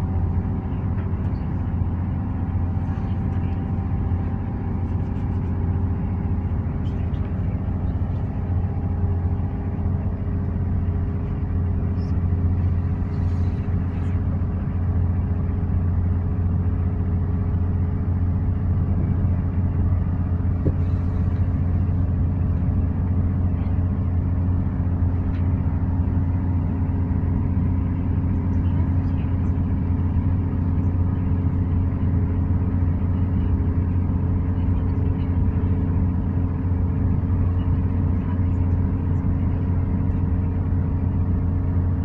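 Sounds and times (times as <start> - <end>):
train engine drone and rumble: 0.0 - 42.0.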